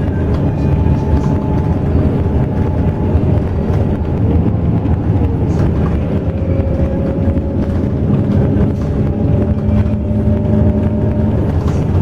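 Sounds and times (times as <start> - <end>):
coach engine and road rumble: 0.0 - 12.0.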